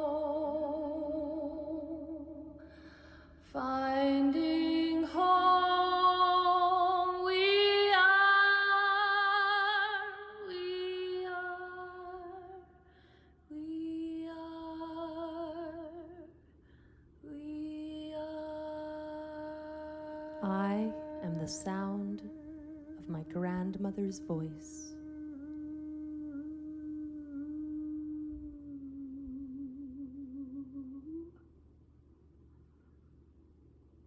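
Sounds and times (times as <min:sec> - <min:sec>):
woman singing wordless notes: 0:00.0 - 0:02.7, 0:03.4 - 0:12.7, 0:13.5 - 0:16.3, 0:17.2 - 0:31.4.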